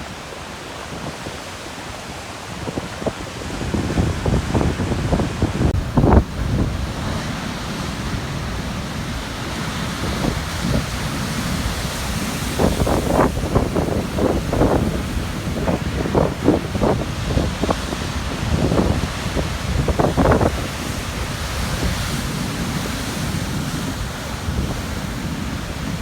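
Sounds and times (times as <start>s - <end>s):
surf breaking on rocky shore: 0.0s - 26.0s
wind buffeting microphone: 0.0s - 26.0s.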